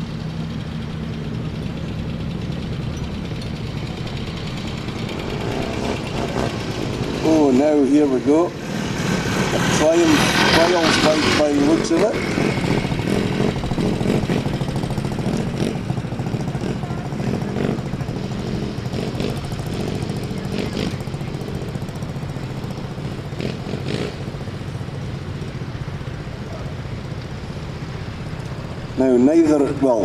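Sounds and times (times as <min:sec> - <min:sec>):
motorcycle engine at low revs: 0:00.0 - 0:30.0.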